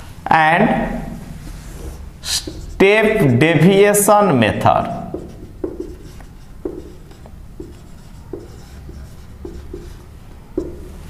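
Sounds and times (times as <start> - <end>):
marker writing on whiteboard: 1.6 - 11.0.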